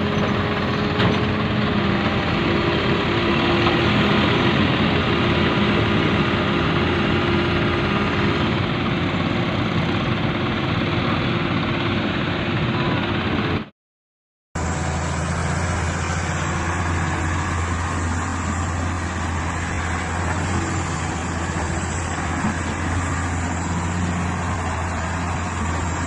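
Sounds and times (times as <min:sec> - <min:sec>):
diesel excavator engine running: 0:00.0 - 0:13.7, 0:14.6 - 0:26.0.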